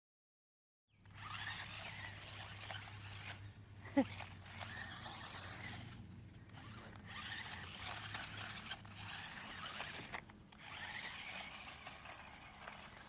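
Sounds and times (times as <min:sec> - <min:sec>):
toy car scrabbling over ground: 0:01.0 - 0:13.0.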